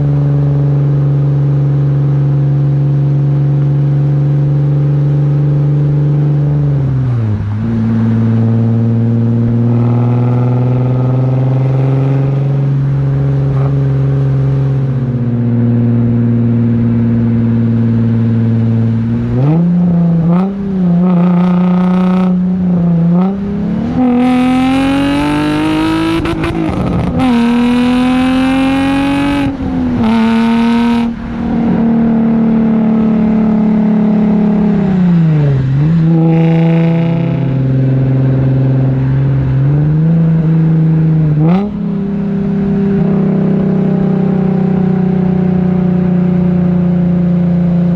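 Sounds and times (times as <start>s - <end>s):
car engine through exhaust: 0.0s - 47.9s.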